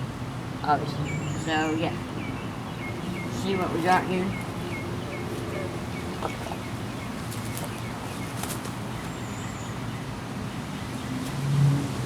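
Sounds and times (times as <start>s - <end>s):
distant engine hum: 0.0s - 12.0s.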